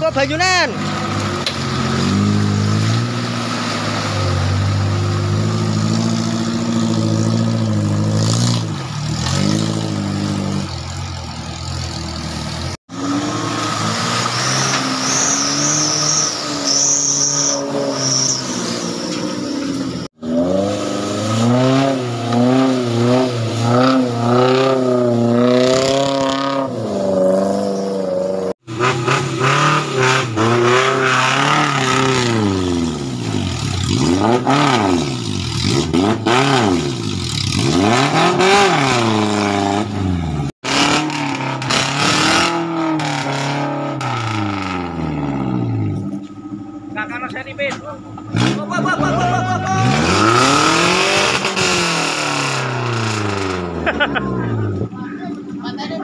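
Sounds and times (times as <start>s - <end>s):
off-road vehicle engines revving: 0.0s - 56.0s.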